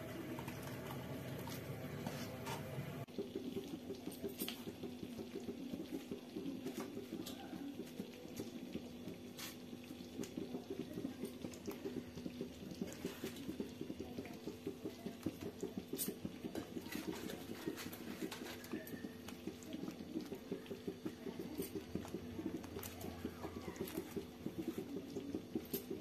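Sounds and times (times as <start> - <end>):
thick sauce bubbling: 0.0 - 26.0.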